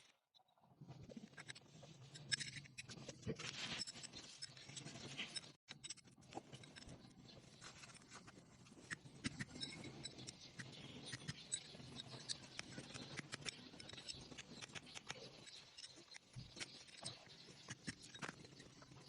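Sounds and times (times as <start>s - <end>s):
small parts clicking and scraping: 1.0s - 19.0s.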